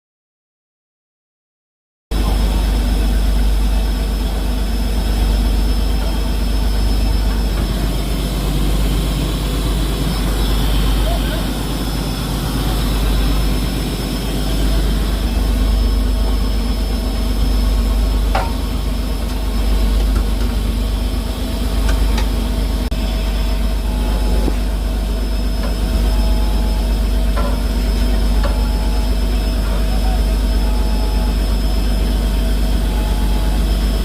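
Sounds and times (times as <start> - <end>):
boat engine humming: 2.1 - 34.0.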